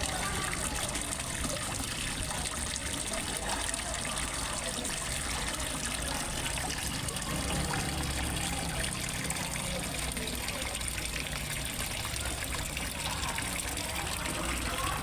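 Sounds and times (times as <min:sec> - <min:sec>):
water trickling into pond: 0:00.0 - 0:15.0.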